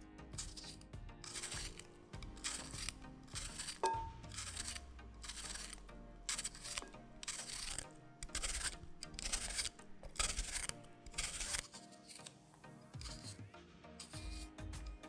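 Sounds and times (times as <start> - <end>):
soft background music: 0.0 - 15.0
knife slicing cucumber: 0.4 - 15.0.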